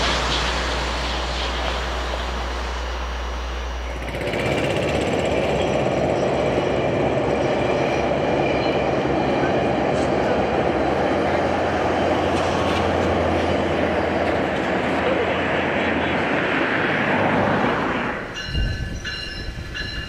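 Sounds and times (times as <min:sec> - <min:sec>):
diesel locomotive engine drone: 0:00.0 - 0:20.0
train rolling by: 0:00.0 - 0:20.0.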